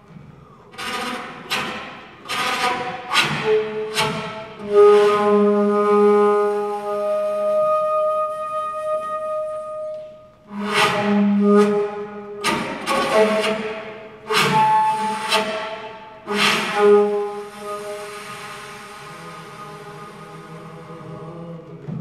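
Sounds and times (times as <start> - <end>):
flute-like wind instrument: 2.4 - 21.8.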